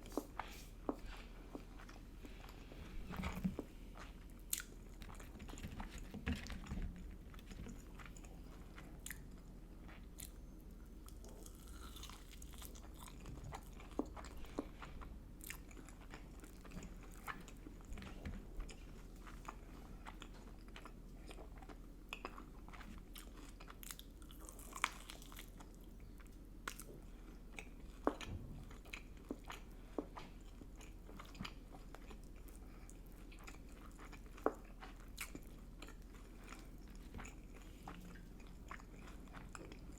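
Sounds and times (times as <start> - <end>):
chewing and biting food: 0.0 - 39.9
faint low hum: 0.0 - 39.9.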